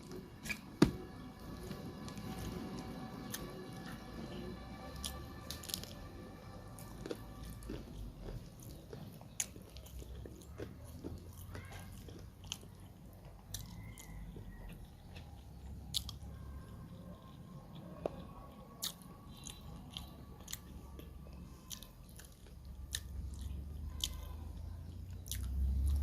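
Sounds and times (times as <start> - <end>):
chewing food: 0.0 - 26.0.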